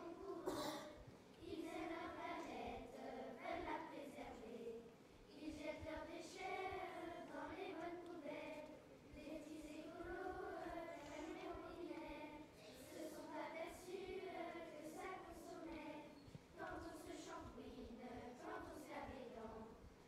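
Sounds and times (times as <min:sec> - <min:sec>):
children singing: 0:00.0 - 0:04.7, 0:05.3 - 0:19.7.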